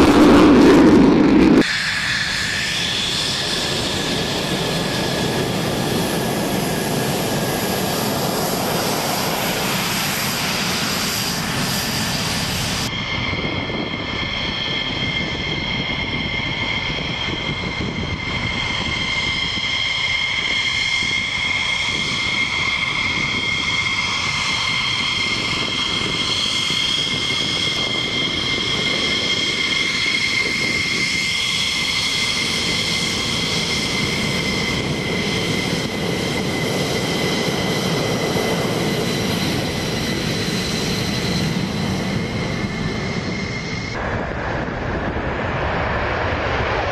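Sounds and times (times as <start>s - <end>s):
jet engine roar with turbine whine: 0.0s - 46.9s.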